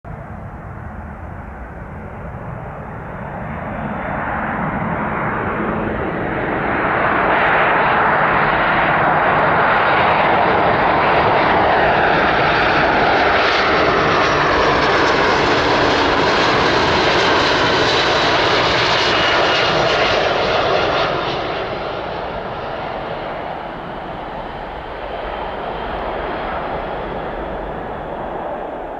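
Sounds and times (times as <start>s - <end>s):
jet engines whining: 0.2s - 28.9s.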